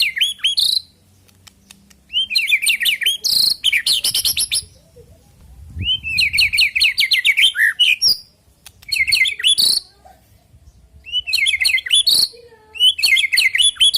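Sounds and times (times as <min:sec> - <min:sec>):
bird singing whistled notes: 0:00.0 - 0:01.0, 0:02.1 - 0:05.0, 0:05.7 - 0:09.9, 0:10.7 - 0:13.9.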